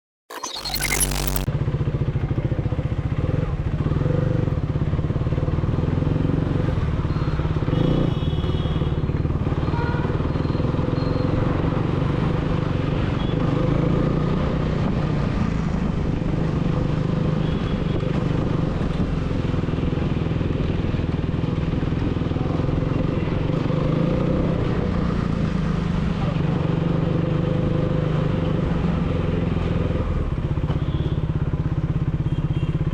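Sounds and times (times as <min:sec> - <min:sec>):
motorcycle engine running: 0:01.5 - 0:32.9.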